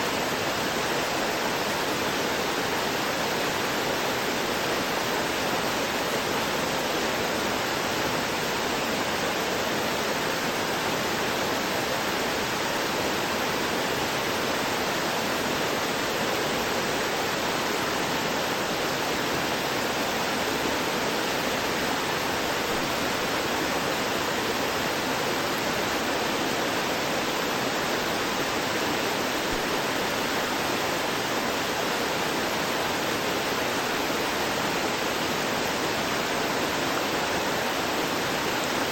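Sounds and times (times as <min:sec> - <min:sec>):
stream gurgling over rocks: 0:00.0 - 0:38.9.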